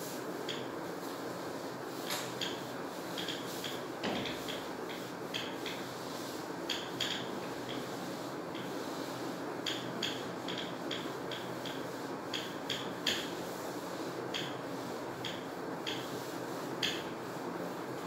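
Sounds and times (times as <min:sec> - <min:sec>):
duster scrubbing whiteboard: 0:00.0 - 0:18.0.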